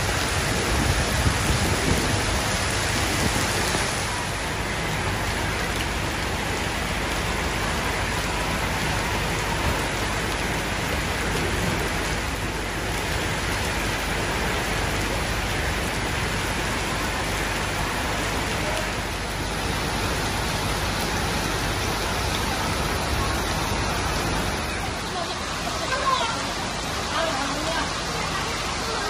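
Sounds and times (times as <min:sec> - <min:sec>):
heavy rain on standing water: 0:00.0 - 0:29.0.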